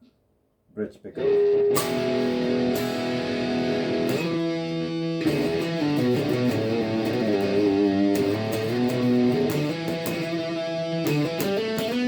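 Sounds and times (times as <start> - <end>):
overdriven electric guitar: 1.2 - 12.0.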